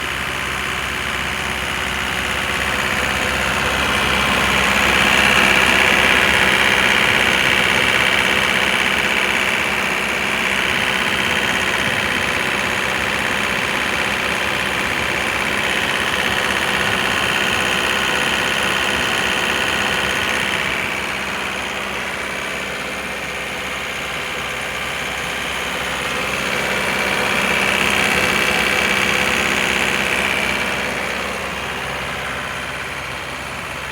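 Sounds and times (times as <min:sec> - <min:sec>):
air compressor running: 0:00.0 - 0:33.9.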